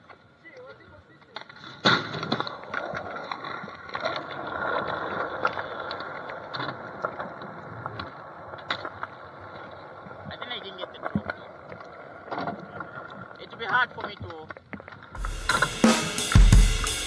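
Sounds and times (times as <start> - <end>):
skateboard rolling on asphalt: 0.0 - 15.3
skateboard clacks: 0.8 - 14.6.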